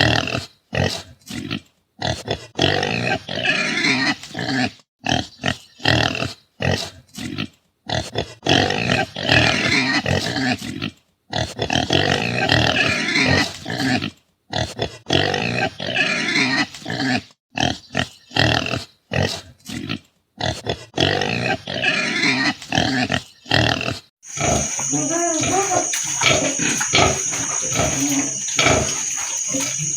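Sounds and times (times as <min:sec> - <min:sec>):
pigs calling: 0:00.0 - 0:29.9.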